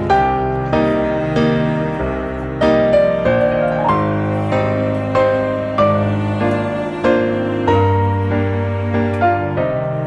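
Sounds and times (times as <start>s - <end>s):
slow soft piano music: 0.0s - 10.0s.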